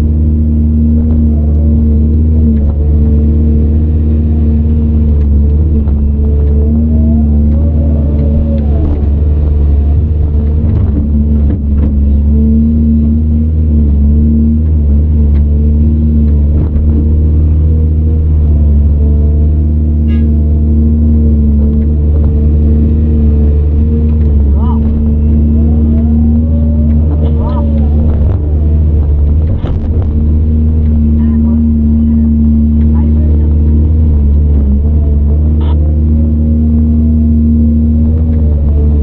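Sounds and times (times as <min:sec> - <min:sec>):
excavator diesel engine running: 0:00.0 - 0:39.0
knocks and clunks: 0:00.6 - 0:39.0.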